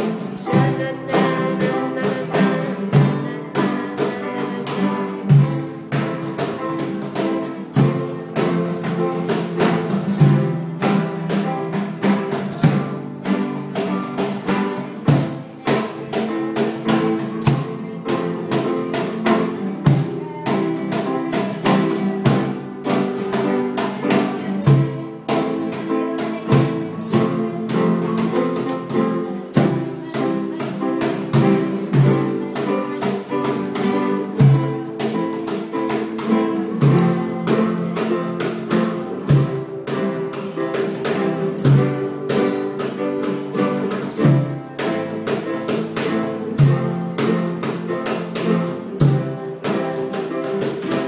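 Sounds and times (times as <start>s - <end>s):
acoustic guitars strummed: 0.0s - 51.0s
cajon beaten by hand: 0.0s - 51.0s.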